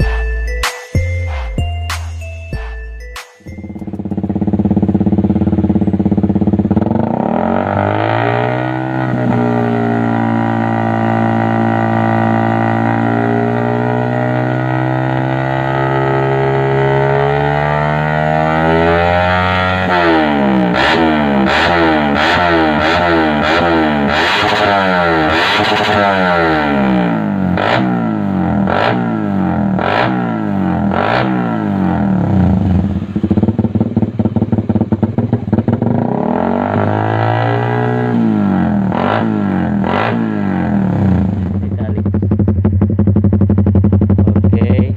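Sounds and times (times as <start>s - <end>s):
motorcycle engine revving: 3.5s - 44.9s.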